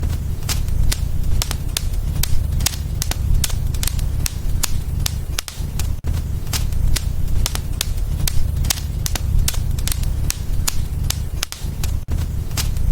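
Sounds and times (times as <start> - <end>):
low rumble of flames: 0.0 - 12.9
wood fire crackling and popping: 0.0 - 12.9.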